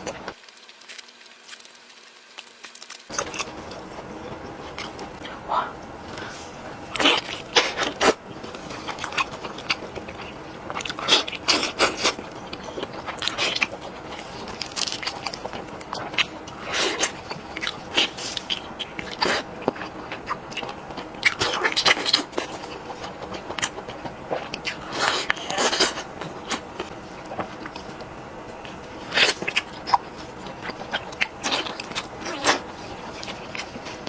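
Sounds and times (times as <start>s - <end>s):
chewing: 0.0s - 34.0s.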